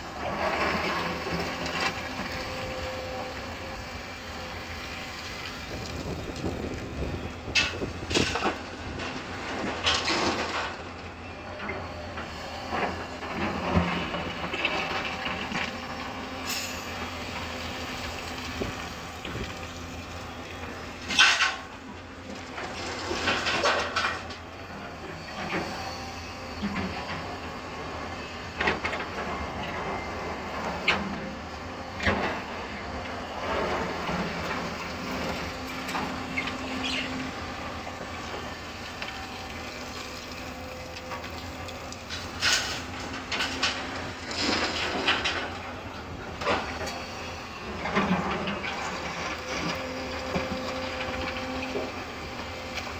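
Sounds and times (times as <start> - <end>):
excavator engine running: 0.0 - 52.9.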